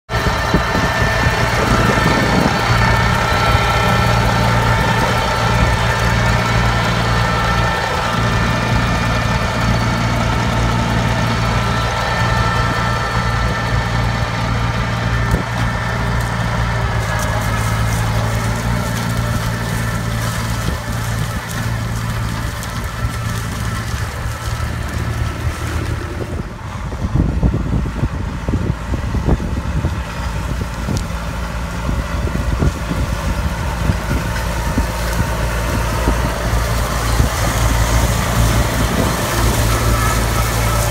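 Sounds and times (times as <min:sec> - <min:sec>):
tractor diesel engine running: 0:00.0 - 0:40.9
high machinery whine: 0:00.1 - 0:40.9.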